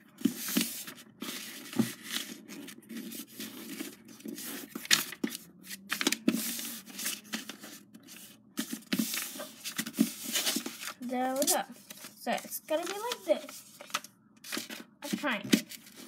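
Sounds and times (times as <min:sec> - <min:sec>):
paper being folded and creased: 0:00.1 - 0:16.0.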